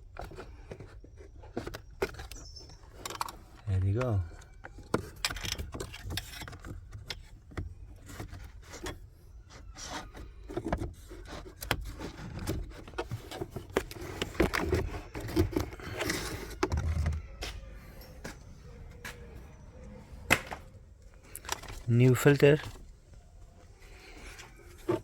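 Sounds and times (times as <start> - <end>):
rubbing and scraping: 0.0 - 25.0.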